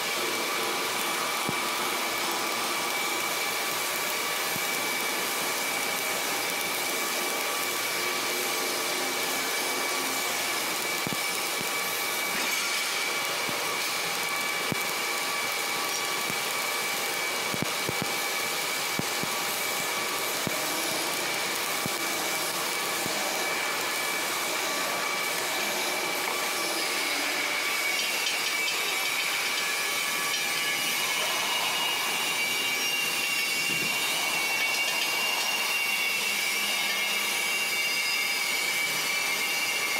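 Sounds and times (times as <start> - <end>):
high-pitched machinery tone: 0.0 - 39.9
welding arc crackling hiss: 0.0 - 39.9.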